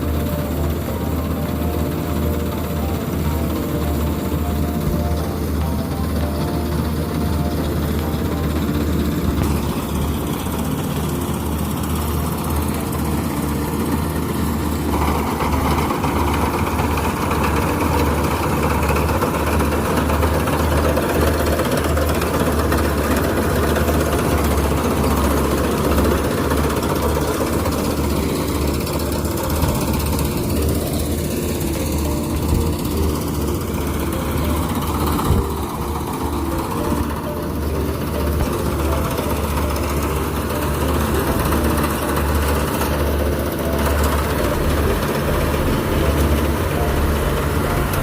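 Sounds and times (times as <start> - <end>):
diesel engine drone: 0.0 - 48.0
machinery clatter: 0.0 - 48.0.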